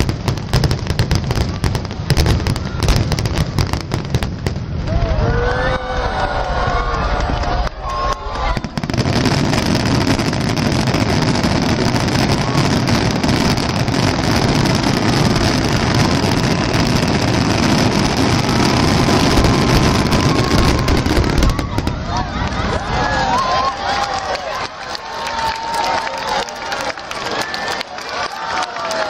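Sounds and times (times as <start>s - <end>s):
fireworks bursting: 0.0s - 25.8s.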